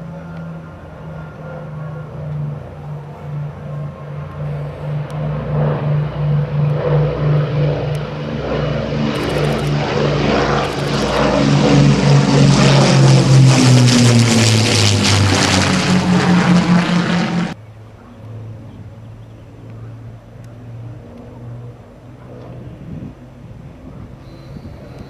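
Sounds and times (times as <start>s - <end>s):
piston aircraft engines droning: 0.0s - 25.0s.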